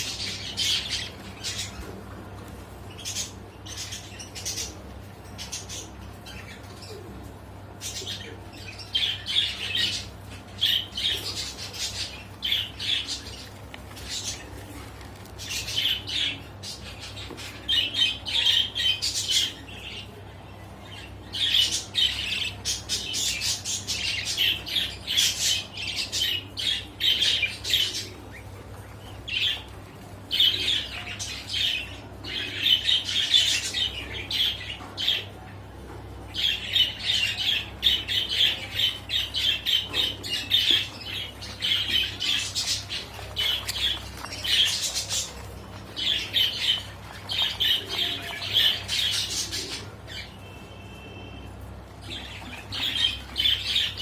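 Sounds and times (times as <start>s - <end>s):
canary singing: 0.0s - 35.6s, 36.3s - 54.0s.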